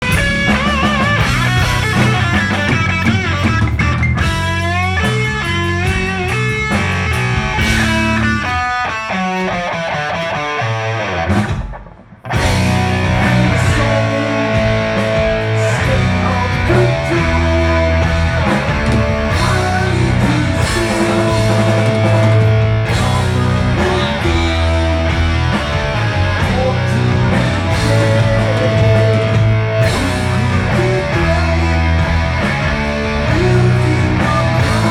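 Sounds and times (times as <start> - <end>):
fast electric guitar lines: 0.0 - 34.9
heavy metal band playing: 0.0 - 34.9.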